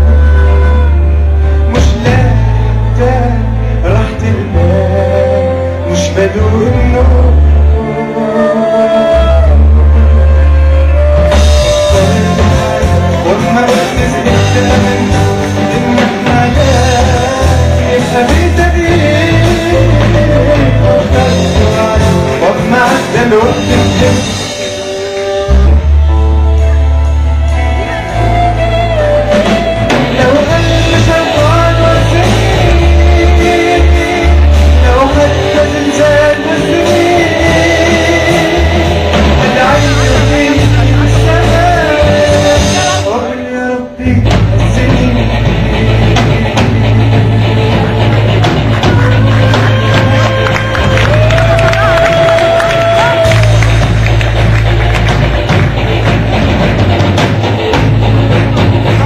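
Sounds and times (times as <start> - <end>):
person singing: 0.0 - 54.0
live rock band playing: 0.0 - 59.0.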